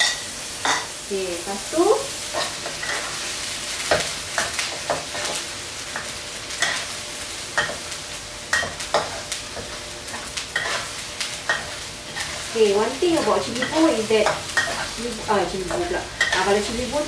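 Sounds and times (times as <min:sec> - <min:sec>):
spice paste sizzling in oil: 0:00.0 - 0:17.0.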